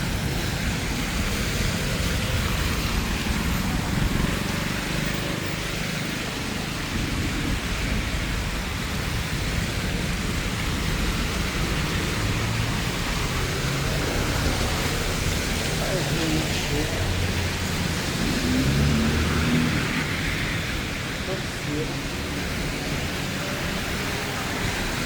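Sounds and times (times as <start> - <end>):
rain falling on street: 0.0 - 25.0.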